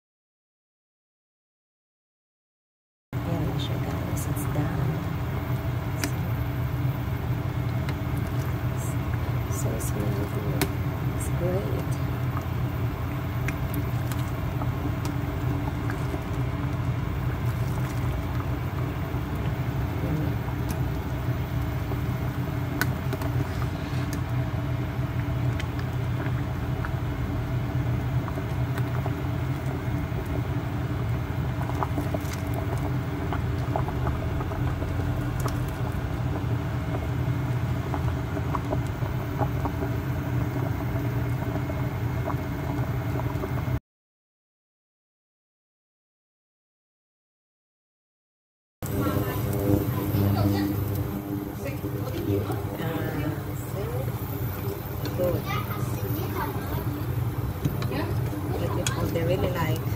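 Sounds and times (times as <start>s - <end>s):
low stove hum: 3.2s - 43.8s, 48.8s - 59.9s
soup boiling with bubbling pops: 3.8s - 43.8s, 48.8s - 59.9s.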